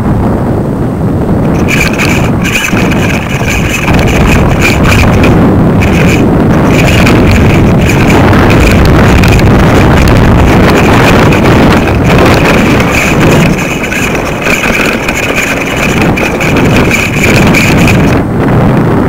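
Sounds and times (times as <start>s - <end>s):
steady high whine: 0.0s - 19.0s
wind buffeting microphone: 0.0s - 19.0s.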